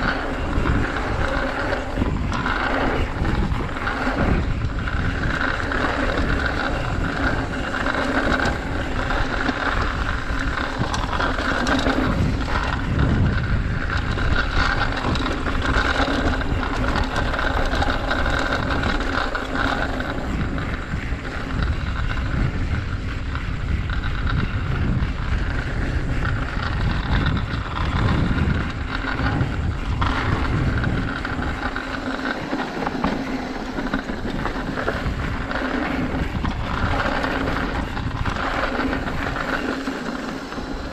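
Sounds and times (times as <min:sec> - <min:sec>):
bike rattling: 0:00.0 - 0:40.9
wind rushing over microphone: 0:00.0 - 0:40.9.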